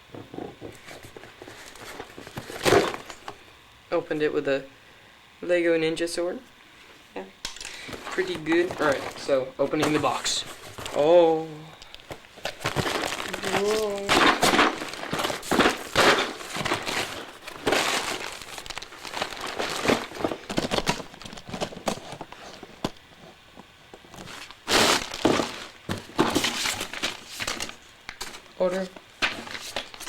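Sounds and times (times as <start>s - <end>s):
cardboard and plastic rustling: 0.1s - 3.4s, 7.6s - 30.0s.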